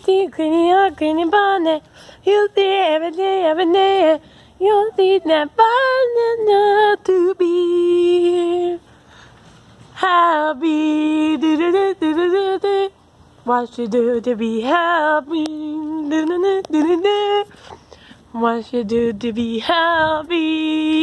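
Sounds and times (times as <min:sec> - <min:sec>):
person singing unaccompanied: 0:00.0 - 0:08.9, 0:09.8 - 0:21.0.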